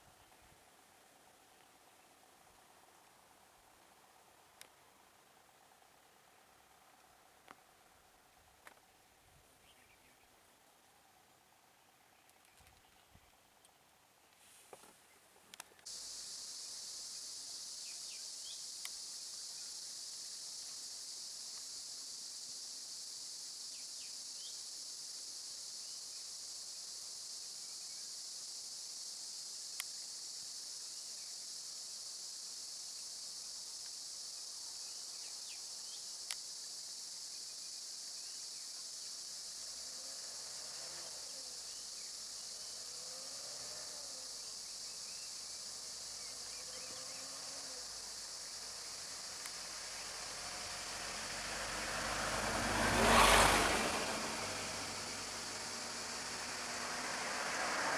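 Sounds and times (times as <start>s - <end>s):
insects chorus: 0.0s - 57.9s.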